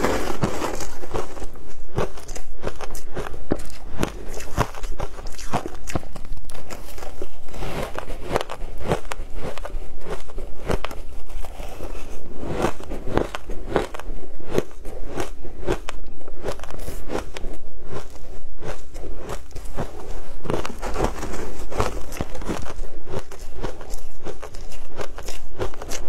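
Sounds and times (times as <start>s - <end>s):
crushed ice crunching: 0.0s - 15.9s, 16.5s - 26.0s.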